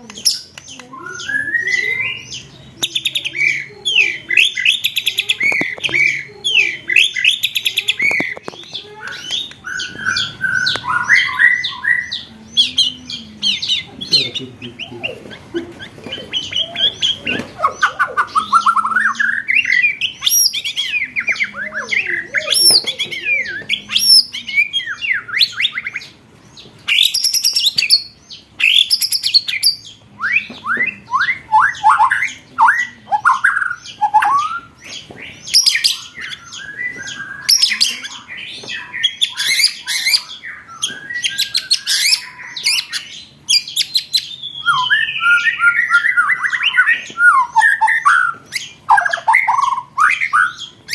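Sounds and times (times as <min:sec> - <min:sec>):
songbird whistles and trills: 0:00.2 - 0:26.1, 0:26.9 - 0:50.9.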